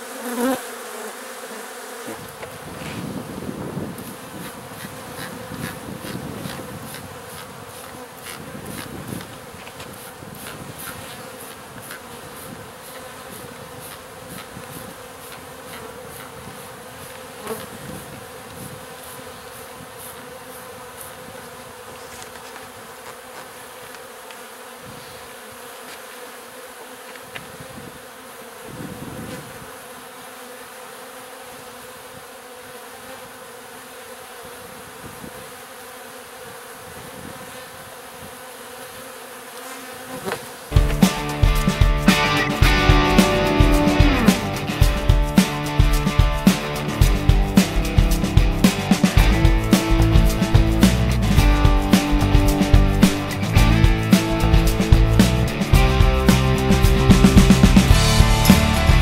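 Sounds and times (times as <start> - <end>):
bee swarm buzzing: 0.0 - 59.0.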